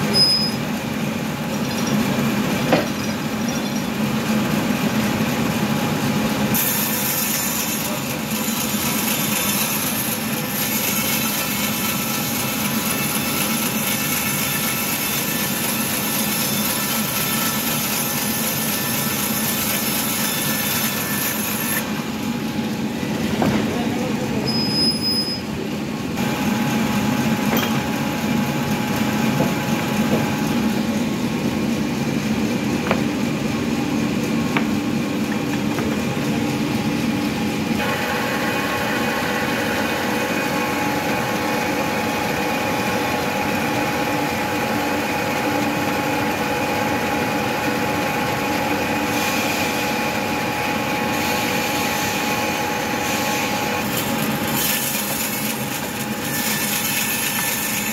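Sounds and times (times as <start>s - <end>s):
bandsaw mill humming and whining: 0.0s - 57.9s.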